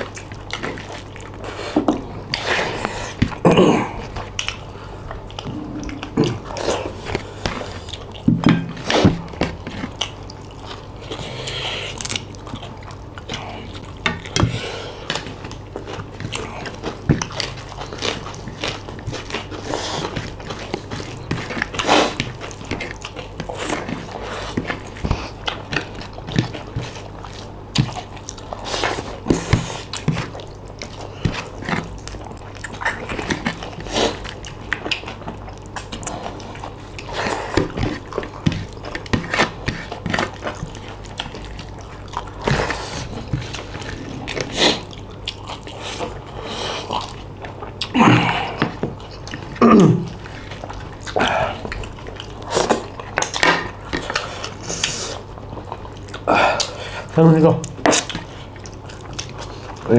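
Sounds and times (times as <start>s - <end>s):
people biting and chewing: 0.0s - 59.9s
steady low hum: 0.0s - 59.9s.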